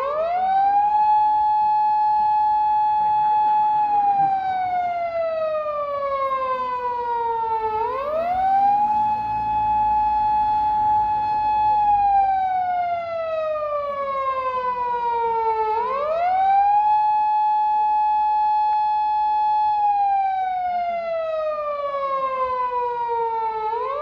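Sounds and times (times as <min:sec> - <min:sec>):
police siren wailing: 0:00.0 - 0:24.0.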